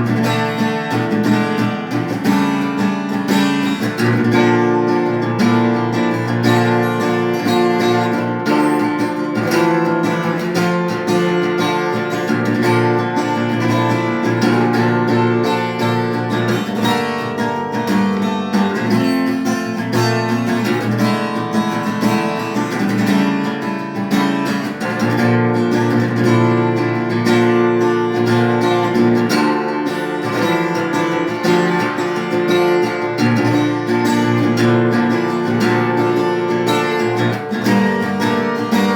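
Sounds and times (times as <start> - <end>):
acoustic guitar playing chords: 0.0 - 38.9.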